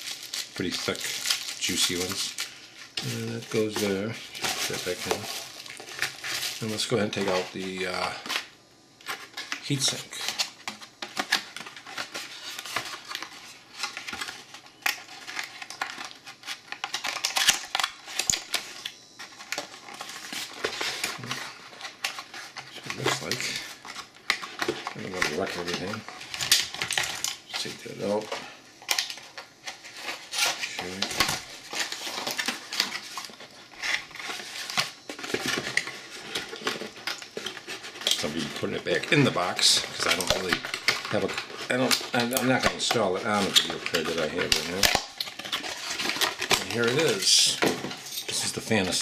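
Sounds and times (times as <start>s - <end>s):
plastic wrapping rustling: 0.0s - 49.0s.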